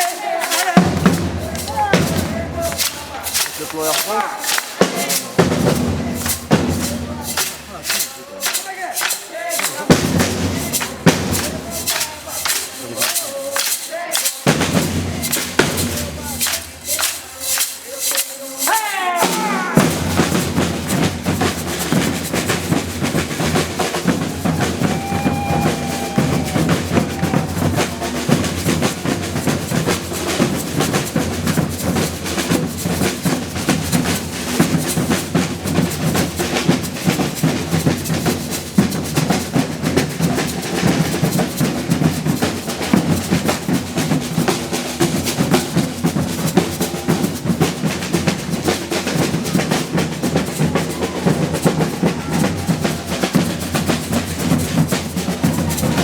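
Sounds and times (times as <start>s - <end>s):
percussion band drumming: 0.0s - 56.0s.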